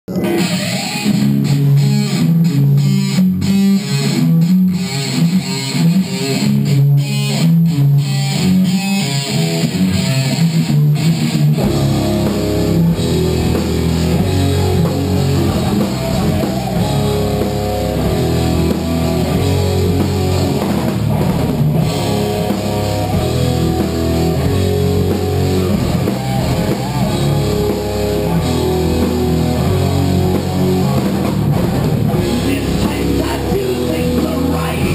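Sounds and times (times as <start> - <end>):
heavy electric guitar riff: 0.0 - 34.9
rock band playing: 0.1 - 34.9.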